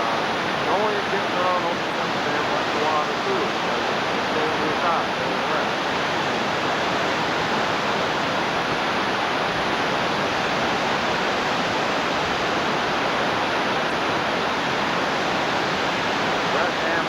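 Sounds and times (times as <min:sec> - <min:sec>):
water rushing over dam gates: 0:00.0 - 0:17.0.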